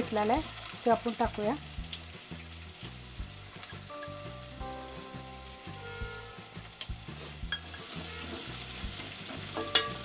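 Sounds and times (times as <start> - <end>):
onion sizzling in hot oil: 0.0 - 10.0
background music with a beat: 1.7 - 10.0.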